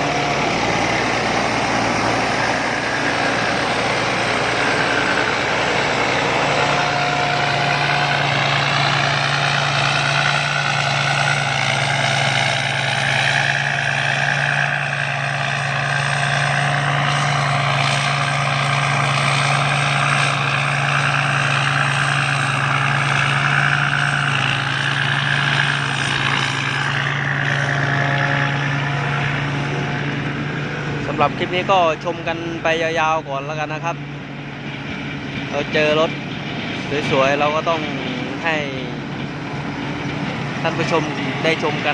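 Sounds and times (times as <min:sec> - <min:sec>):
combine harvester engine hum: 0:00.0 - 0:41.9
machinery whines: 0:00.0 - 0:41.9.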